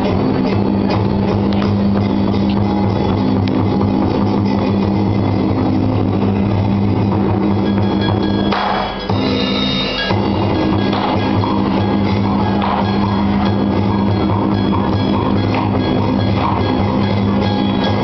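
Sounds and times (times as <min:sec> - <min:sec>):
traditional theatre music with drums: 0:00.0 - 0:18.0.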